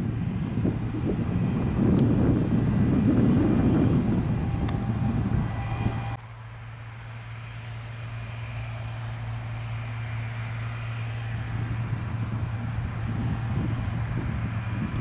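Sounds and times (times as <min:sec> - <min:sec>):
diesel engines running: 0:00.0 - 0:15.0.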